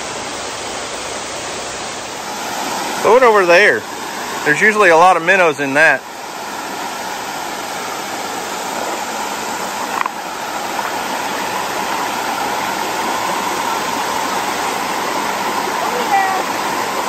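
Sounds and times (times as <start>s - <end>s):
water rushing over a dam: 0.0s - 17.0s.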